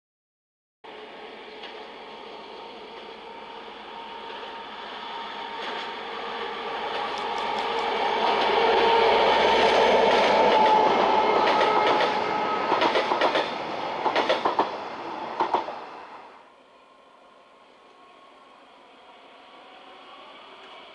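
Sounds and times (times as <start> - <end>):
diesel locomotive engine drone: 0.9 - 20.9.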